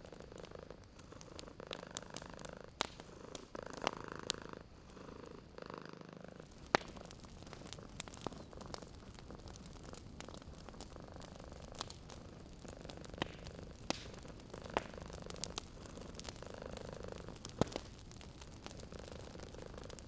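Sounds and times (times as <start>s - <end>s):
cat purring: 0.0s - 20.0s
wood fire crackling and popping: 0.0s - 20.0s.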